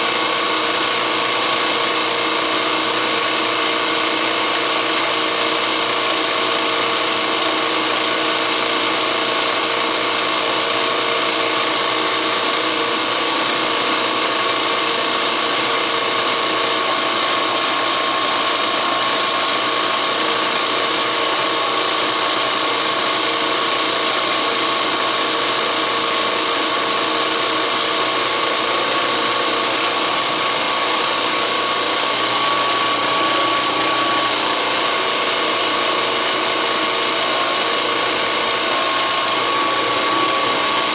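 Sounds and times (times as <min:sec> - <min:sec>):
drill press drilling steel: 0:00.0 - 0:40.9.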